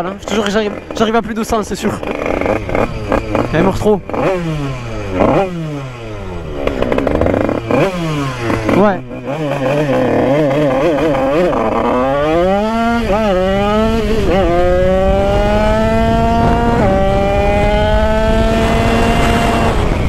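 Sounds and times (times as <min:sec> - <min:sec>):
two-stroke engine accelerating: 0:00.0 - 0:20.0.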